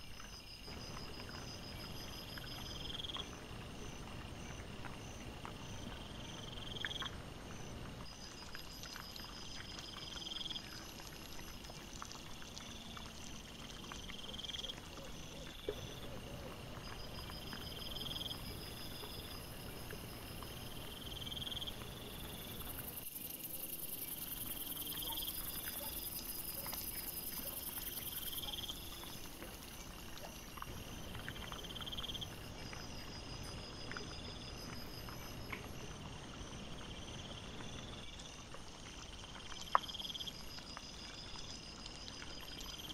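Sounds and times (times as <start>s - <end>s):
night insects chirping: 0.0s - 42.9s.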